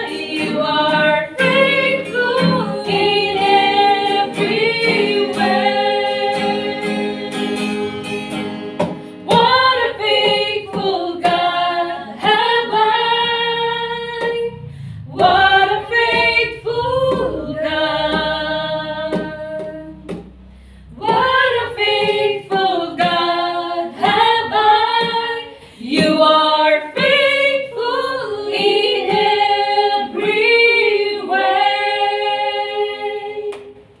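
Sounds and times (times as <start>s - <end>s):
women singing a worship song: 0.0s - 34.0s.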